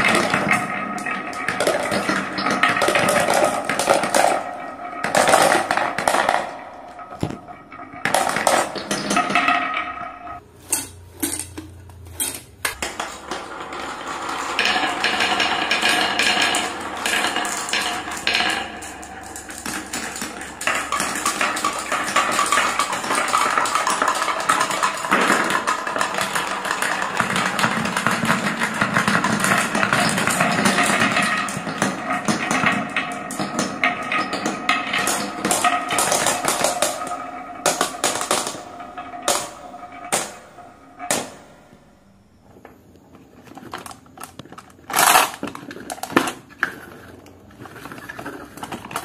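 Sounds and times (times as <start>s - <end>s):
marbles rattling down marble run: 0.0s - 10.4s, 12.7s - 41.8s.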